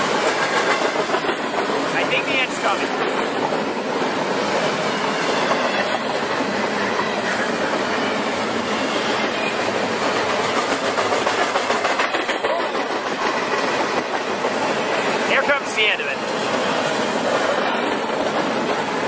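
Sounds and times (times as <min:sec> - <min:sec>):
clickety-clack over rail joints: 0:00.0 - 0:19.0
freight train wheels rumbling: 0:00.0 - 0:19.0.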